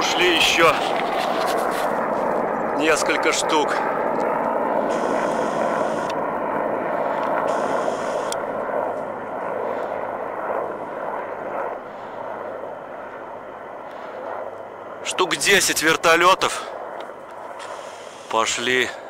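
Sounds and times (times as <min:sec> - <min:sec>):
helicopter rotor and engine noise: 0:00.0 - 0:19.0.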